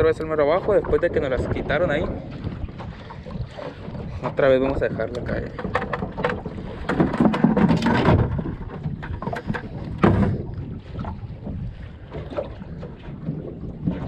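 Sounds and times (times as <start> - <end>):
water slapping boat hull: 0.0 - 14.0
wind buffeting microphone: 0.0 - 14.0.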